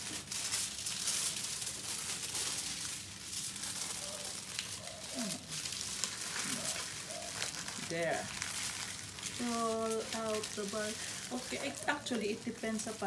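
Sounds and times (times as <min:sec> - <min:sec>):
paper and foil crinkling: 0:00.0 - 0:13.0.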